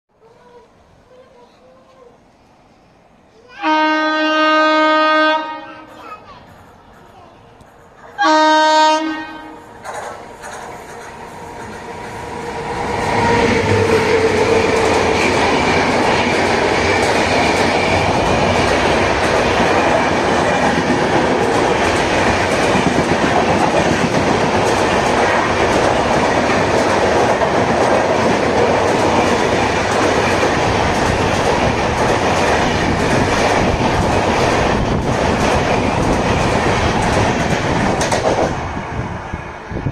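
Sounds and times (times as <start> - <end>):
train passing close by: 0.2 - 39.9.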